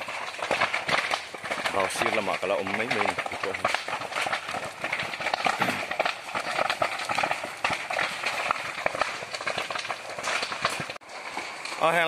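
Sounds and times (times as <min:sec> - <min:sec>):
dry grass burning and crackling: 0:00.0 - 0:12.0.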